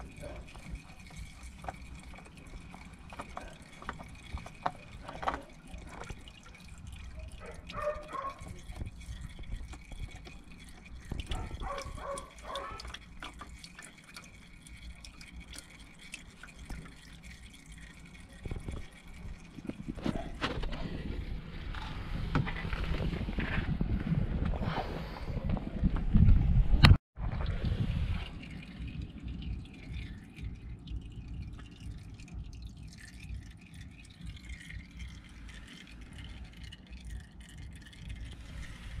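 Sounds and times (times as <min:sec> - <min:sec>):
oil trickling and dripping: 0:00.0 - 0:23.5, 0:27.2 - 0:39.0.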